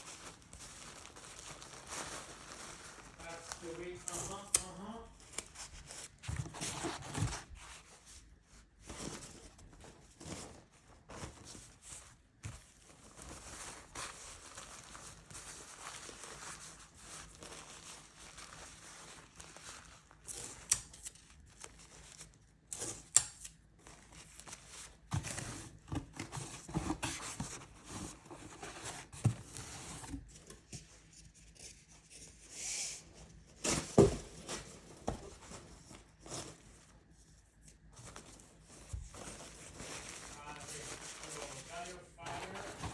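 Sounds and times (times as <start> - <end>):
packaging rustling and tearing: 0.0 - 8.0, 9.0 - 31.7, 33.6 - 42.9.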